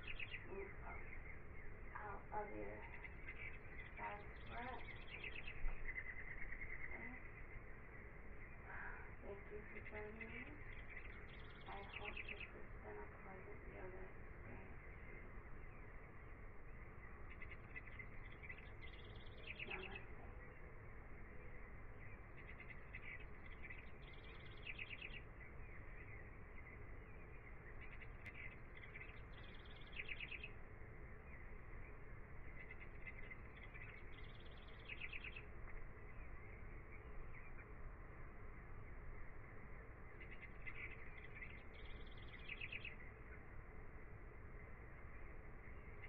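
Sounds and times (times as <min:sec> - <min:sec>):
songbird song with trill: 0:00.0 - 0:46.0
steady hiss: 0:00.0 - 0:46.0.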